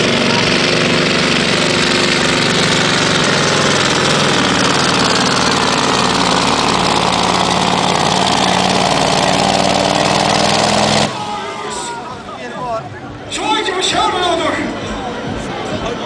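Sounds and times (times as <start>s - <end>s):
diesel truck engine under load: 0.0s - 16.0s.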